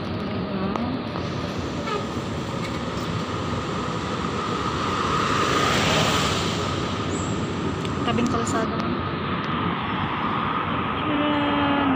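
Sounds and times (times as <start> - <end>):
road traffic noise: 0.0 - 11.9
vehicle passing: 0.0 - 11.9.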